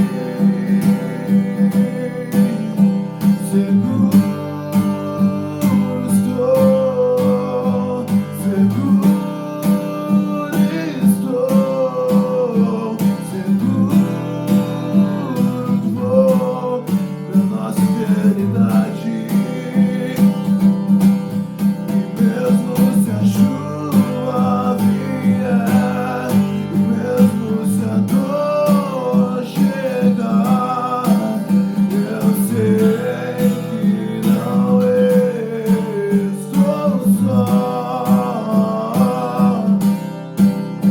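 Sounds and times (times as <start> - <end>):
person singing: 0.0 - 20.7, 22.1 - 39.9
acoustic guitar strumming: 0.0 - 40.9.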